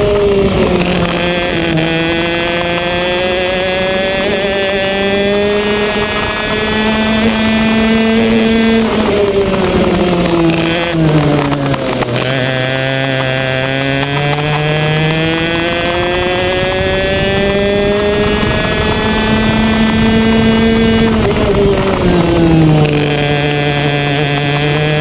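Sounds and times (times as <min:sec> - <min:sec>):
racing kart engine: 0:00.0 - 0:25.0.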